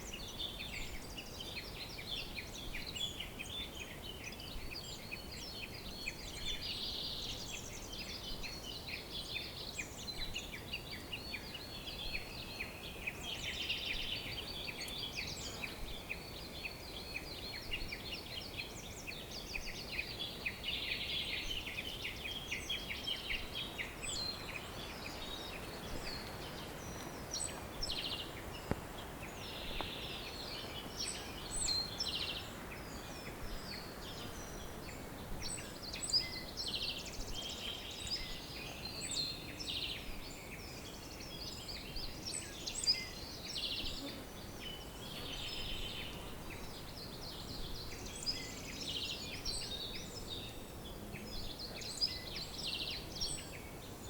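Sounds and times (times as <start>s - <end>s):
low background hiss: 0.0s - 54.0s
songbirds chirping and trilling: 0.0s - 54.0s.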